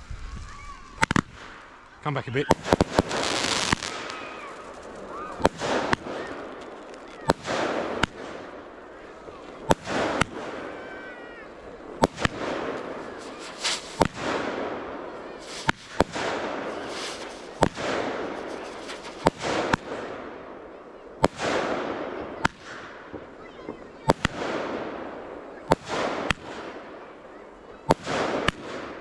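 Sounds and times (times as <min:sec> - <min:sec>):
fireworks bangs: 0:00.0 - 0:29.0
fireworks crackle and hiss: 0:00.0 - 0:29.0.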